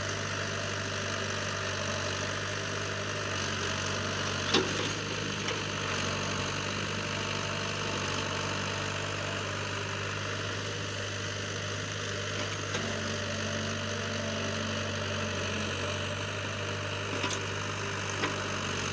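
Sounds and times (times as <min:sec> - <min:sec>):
engine idling: 0:00.1 - 0:18.9.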